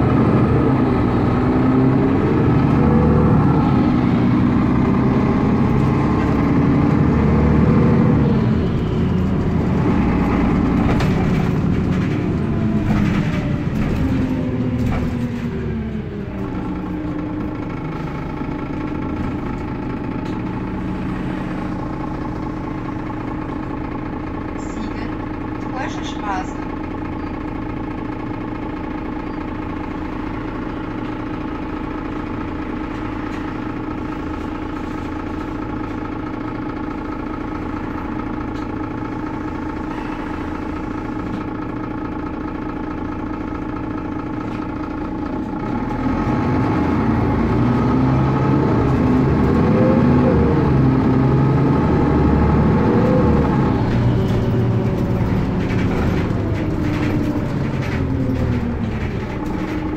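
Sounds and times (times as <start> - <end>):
bus engine humming: 0.0 - 59.9.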